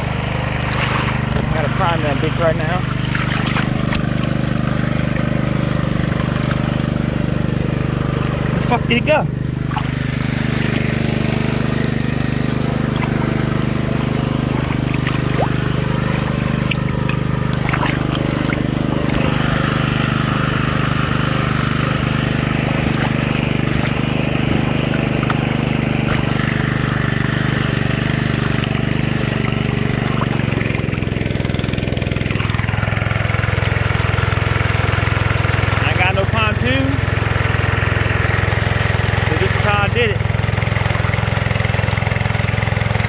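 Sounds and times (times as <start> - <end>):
small petrol engine running: 0.0 - 43.0.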